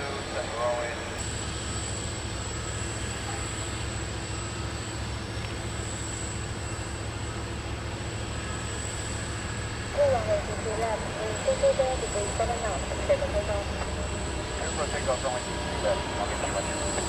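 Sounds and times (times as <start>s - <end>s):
jet engine high whine: 0.0s - 17.0s
jet engine rumble: 0.0s - 17.0s.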